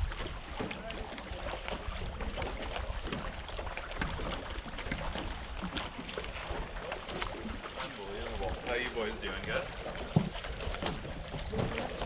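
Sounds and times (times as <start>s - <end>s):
water lapping against dock: 0.0s - 12.0s
wind rumbling on microphone: 0.0s - 12.0s.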